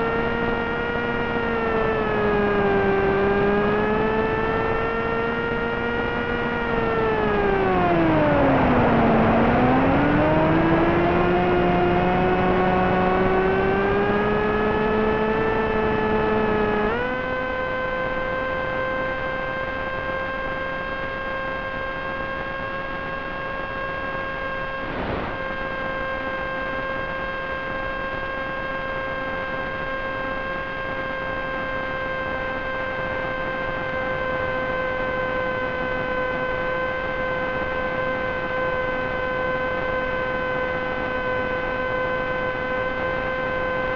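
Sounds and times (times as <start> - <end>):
electric motor and propeller whining: 0.0 - 43.9.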